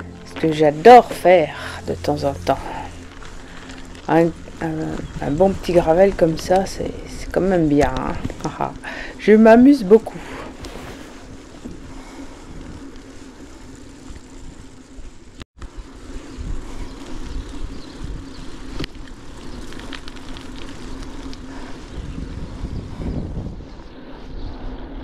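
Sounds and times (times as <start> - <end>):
bike tyres rolling on gravel: 0.0 - 25.0
wind buffeting microphone: 0.5 - 14.8, 15.8 - 25.0.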